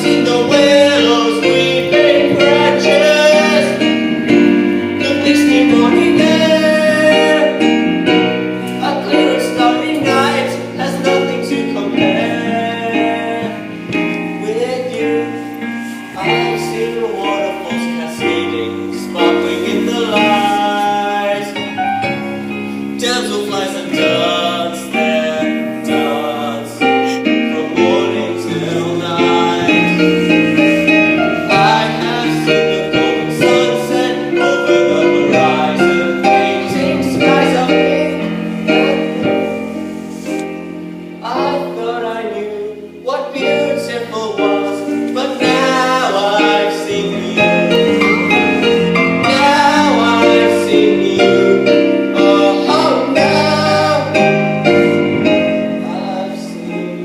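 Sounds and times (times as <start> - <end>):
instrumental accompaniment: 0.0 - 57.0
person singing a ballad: 0.0 - 57.0.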